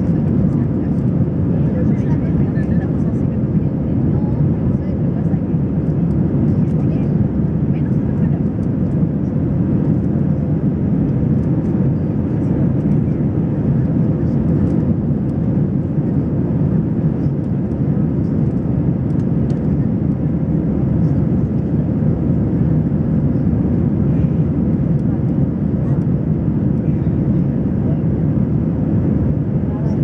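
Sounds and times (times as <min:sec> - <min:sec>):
aircraft cabin engine drone: 0:00.0 - 0:30.0.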